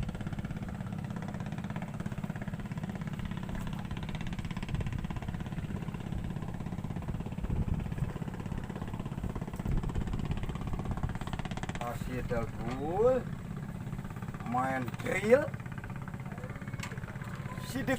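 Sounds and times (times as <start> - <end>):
motor rumbling: 0.0 - 17.9.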